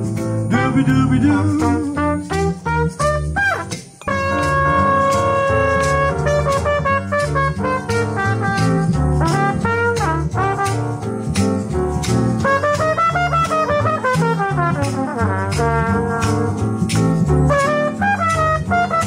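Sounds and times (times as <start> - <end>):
small jazz band playing: 0.0 - 19.0.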